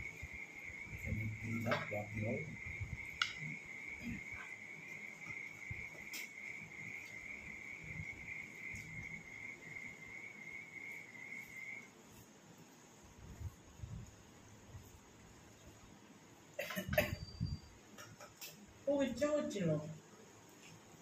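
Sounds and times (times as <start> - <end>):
cricket trilling: 0.0 - 12.2, 15.2 - 21.0.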